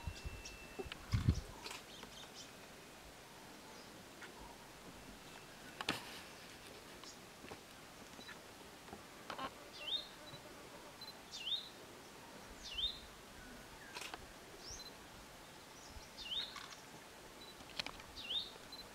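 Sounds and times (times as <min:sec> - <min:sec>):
faint outdoor background noise: 0:00.0 - 0:18.9.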